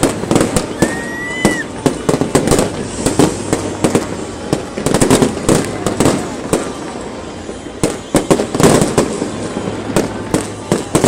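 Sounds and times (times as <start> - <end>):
firework whistle: 0.0 - 11.0
fireworks bangs and crackles: 0.0 - 11.0.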